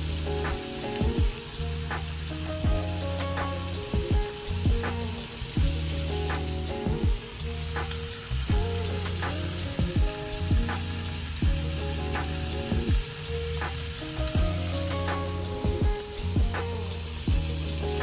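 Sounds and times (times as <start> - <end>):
background music with beat: 0.0 - 18.0
meat sizzling in a pan: 0.0 - 18.0.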